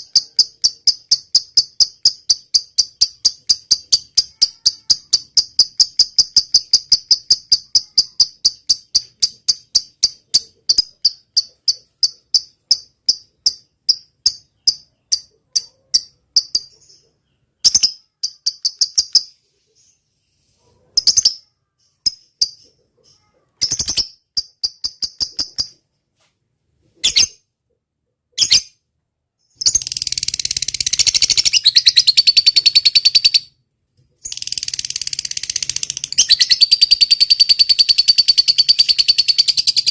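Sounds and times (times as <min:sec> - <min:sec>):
high-pitched bird chirps: 0:00.0 - 0:25.8, 0:26.9 - 0:27.5, 0:28.3 - 0:39.9.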